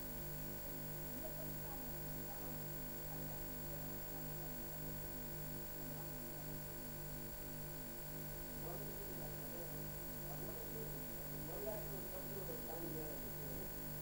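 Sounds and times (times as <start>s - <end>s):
electrical mains hum: 0.0s - 14.0s
faint pulsing buzz: 0.0s - 14.0s.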